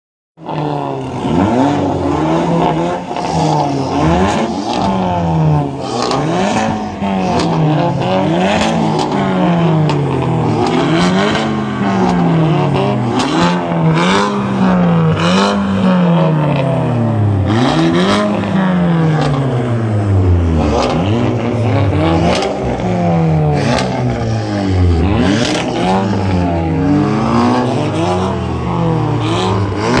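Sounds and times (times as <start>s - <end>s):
car engines revving: 0.4s - 30.0s.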